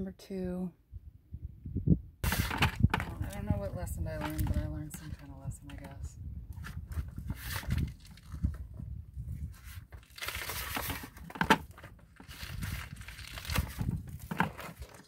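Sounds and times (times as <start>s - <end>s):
extension cord rustling and scraping: 2.2s - 15.0s.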